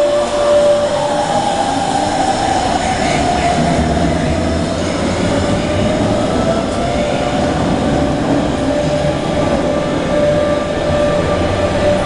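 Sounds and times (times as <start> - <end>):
electric train whine: 0.0 - 12.0
train rumble: 0.0 - 12.0.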